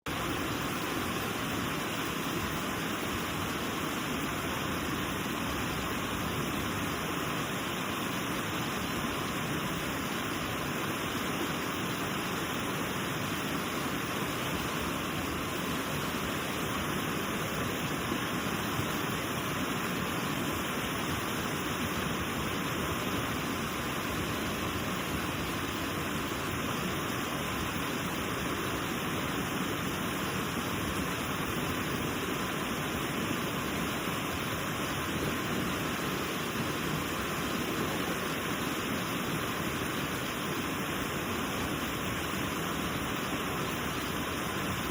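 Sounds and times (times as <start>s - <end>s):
river and waterfall rushing: 0.1s - 44.9s.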